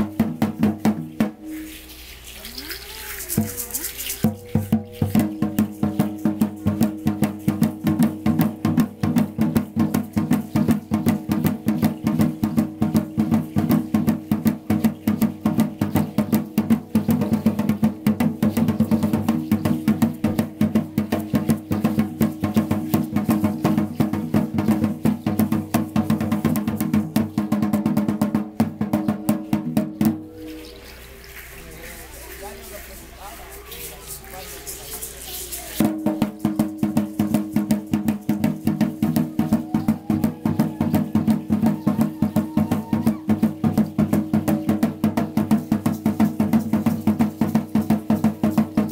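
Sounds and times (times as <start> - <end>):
drum beaten in fast rhythm: 0.0 - 48.9.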